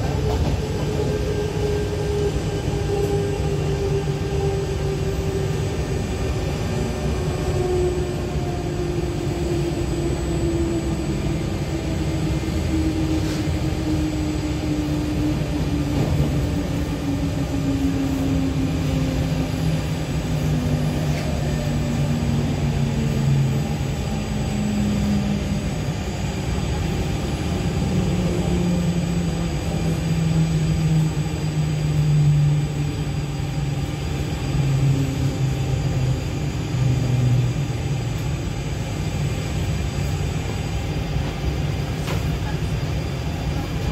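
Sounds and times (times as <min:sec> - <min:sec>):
train rumbling with motor whine: 0:00.0 - 0:43.9.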